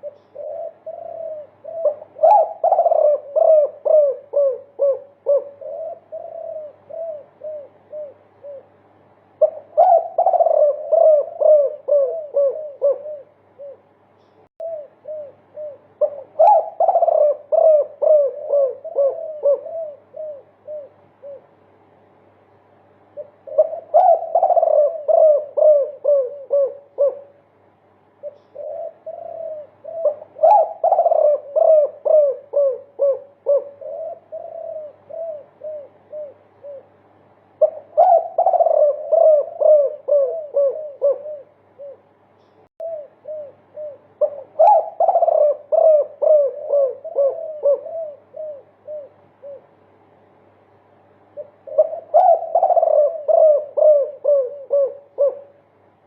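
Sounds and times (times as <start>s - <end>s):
dove cooing: 0.0s - 21.7s, 23.0s - 27.5s, 28.1s - 42.2s, 42.8s - 50.2s, 51.1s - 55.9s.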